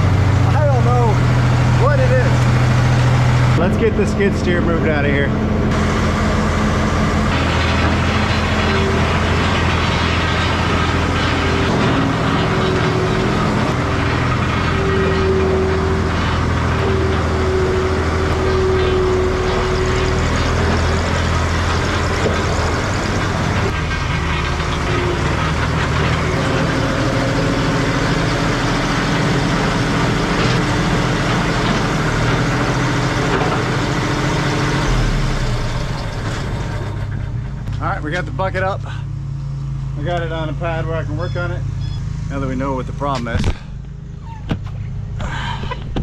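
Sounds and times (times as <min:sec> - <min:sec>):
skid steer engine running: 0:00.0 - 0:46.0.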